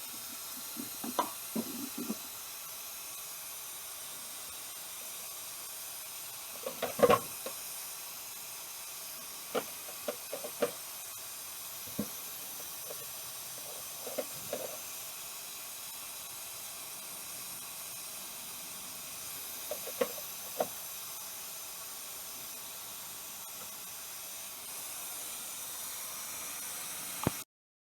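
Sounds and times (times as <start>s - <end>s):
steady hiss: 0.0s - 27.5s.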